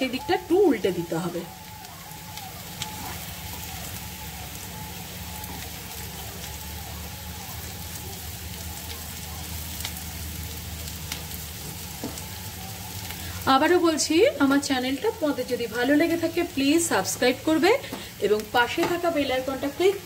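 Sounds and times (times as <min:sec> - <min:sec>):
potatoes sizzling in oil: 0:00.0 - 0:20.0.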